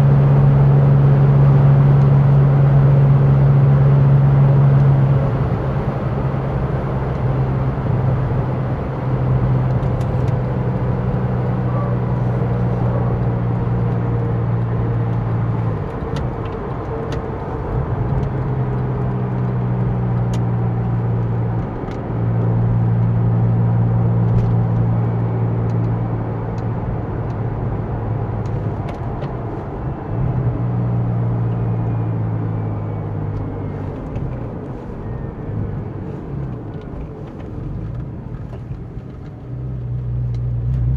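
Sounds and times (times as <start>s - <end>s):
car engine cruising drone: 0.0s - 40.9s
road noise: 0.0s - 40.9s.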